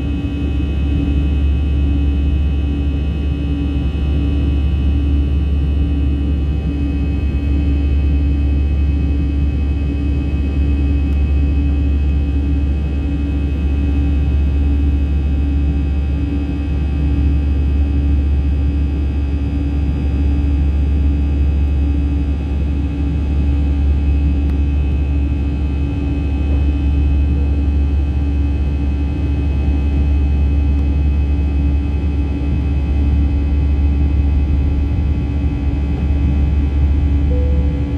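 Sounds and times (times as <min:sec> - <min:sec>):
airliner cabin engine rumble: 0:00.0 - 0:37.9.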